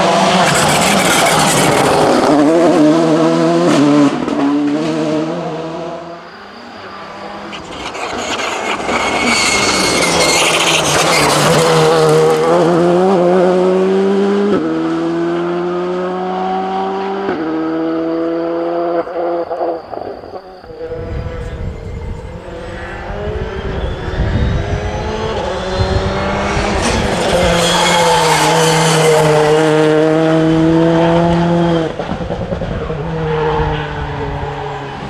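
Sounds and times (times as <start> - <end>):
rally car engines revving hard: 0.0 - 6.2, 6.8 - 35.0.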